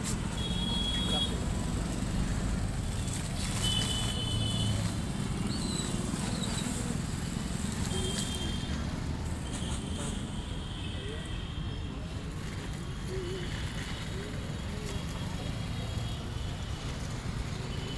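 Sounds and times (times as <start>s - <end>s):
street traffic rumble: 0.0s - 17.9s.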